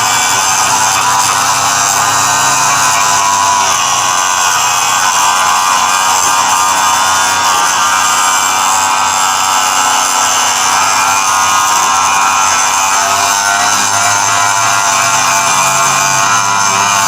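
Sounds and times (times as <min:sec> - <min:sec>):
angle grinder cutting metal: 0:00.0 - 0:17.0.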